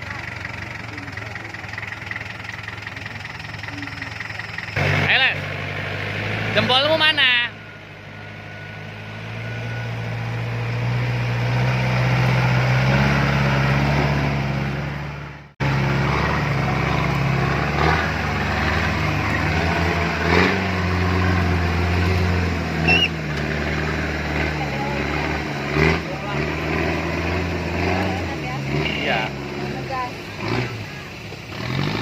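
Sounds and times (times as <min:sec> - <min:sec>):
off-road engine running: 0:00.0 - 0:32.0.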